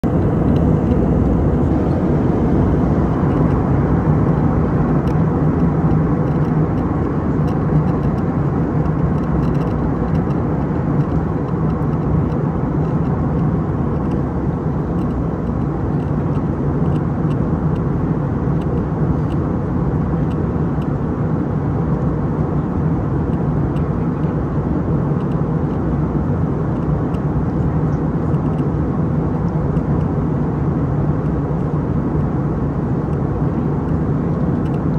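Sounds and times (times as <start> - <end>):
airflow rush in cabin: 0.0 - 34.9
low engine drone: 0.0 - 34.9.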